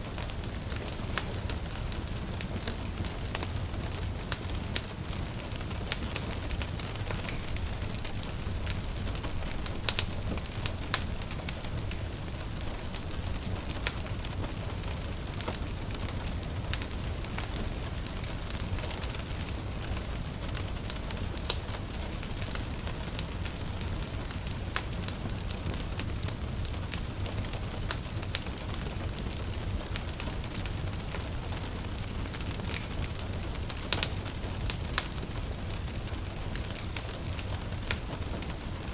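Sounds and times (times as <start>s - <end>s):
gentle rain falling: 0.0s - 38.9s
wood fire crackling and popping: 0.0s - 38.9s.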